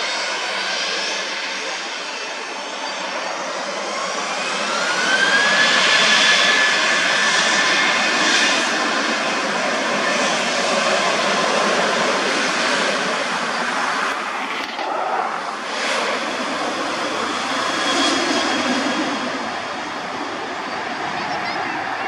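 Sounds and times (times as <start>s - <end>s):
jet engines rushing: 0.0s - 22.0s.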